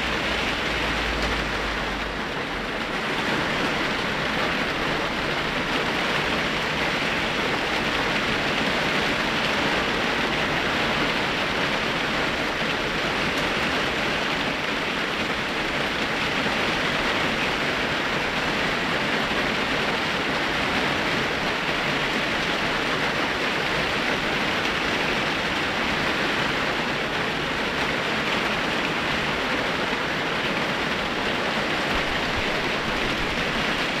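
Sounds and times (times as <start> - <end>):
rain falling steadily: 0.0 - 34.0.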